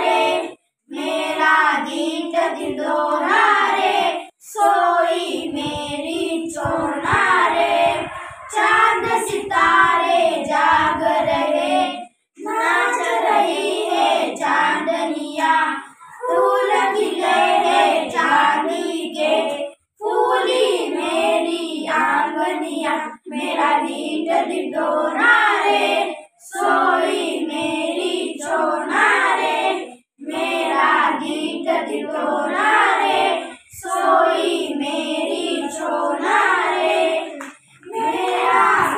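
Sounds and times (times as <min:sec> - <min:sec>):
children singing in unison: 0:00.0 - 0:38.9.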